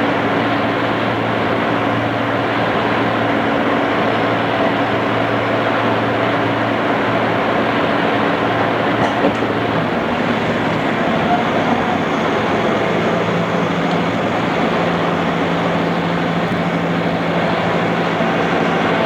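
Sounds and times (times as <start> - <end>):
train interior rumble: 0.0 - 19.0.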